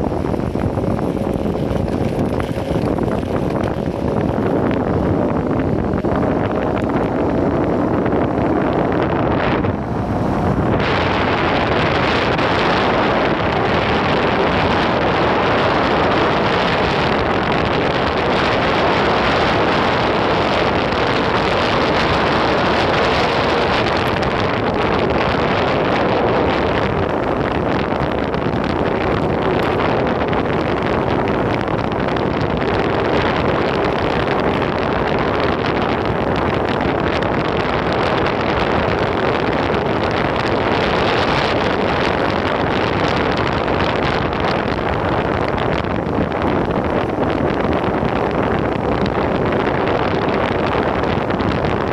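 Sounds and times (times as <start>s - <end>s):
skateboard wheels rumbling on pavement: 0.0s - 51.9s
wind buffeting microphone: 0.0s - 51.9s.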